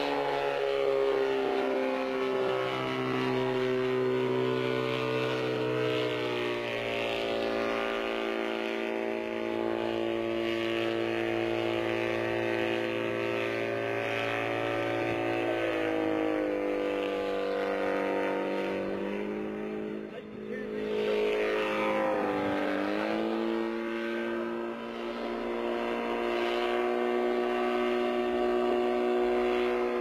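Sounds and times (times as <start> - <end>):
small helicopter engine buzzing: 0.0 - 30.0.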